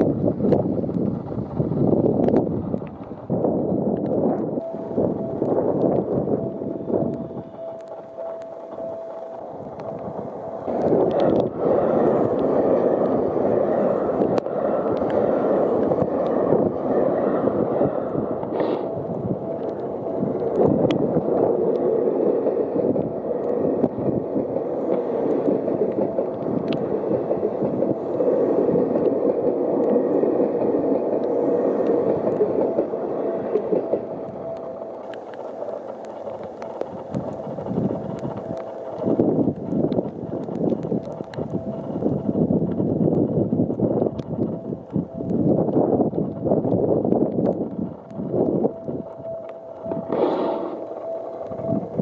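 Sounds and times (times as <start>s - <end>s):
train wheels rumbling on track: 0.0s - 52.0s.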